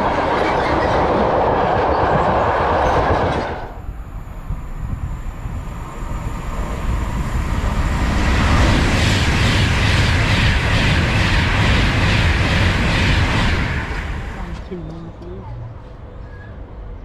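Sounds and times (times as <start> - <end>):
wheels on rail rushing: 0.0 - 16.8
electric train passing at speed: 0.0 - 17.0.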